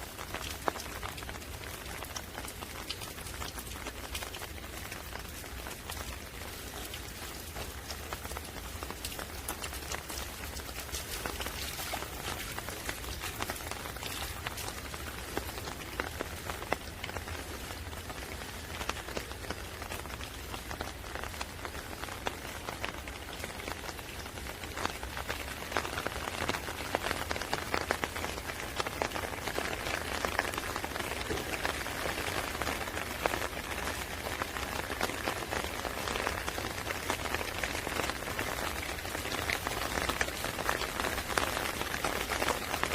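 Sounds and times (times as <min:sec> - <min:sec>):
steady rain with ticking drops: 0:00.0 - 0:42.9.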